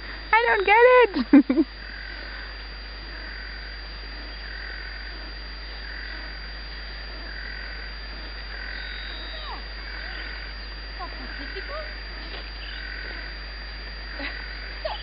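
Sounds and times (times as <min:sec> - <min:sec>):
low steady hum: 0:00.0 - 0:15.0
animal pulsing call: 0:00.3 - 0:06.5, 0:07.1 - 0:13.4.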